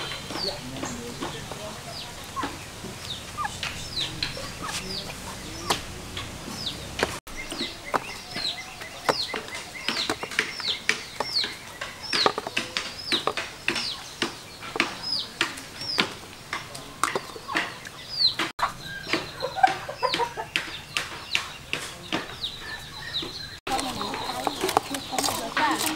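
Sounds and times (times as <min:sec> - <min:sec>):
chickens clucking: 0:00.0 - 0:25.9
chicks peeping: 0:00.0 - 0:25.9.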